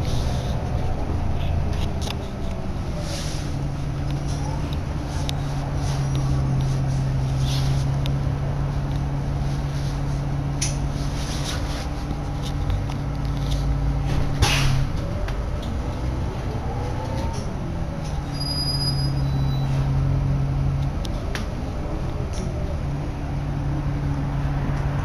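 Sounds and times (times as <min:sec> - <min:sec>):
bus engine hum: 0:00.0 - 0:25.0.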